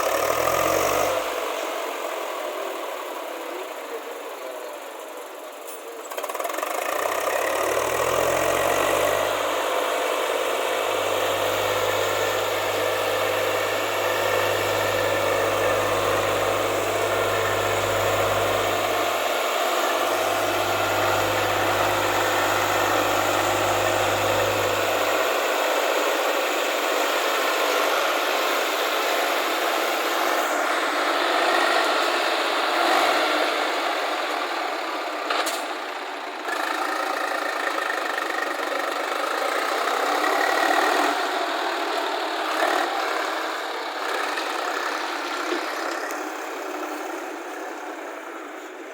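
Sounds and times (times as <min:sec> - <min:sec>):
heavy diesel engines rumbling: 0:00.0 - 0:48.9.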